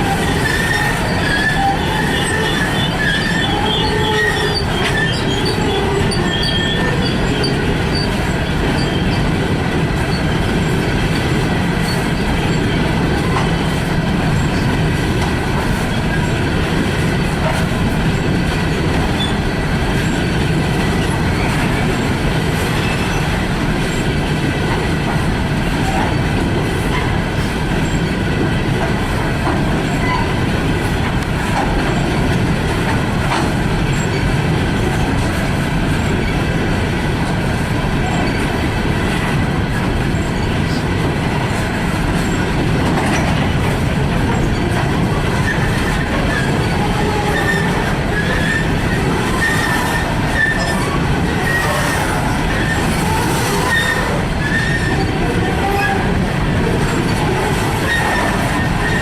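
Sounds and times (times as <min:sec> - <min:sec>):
train cars clattering: 0:00.0 - 0:59.0
train wheels rumbling on rail: 0:00.0 - 0:59.0.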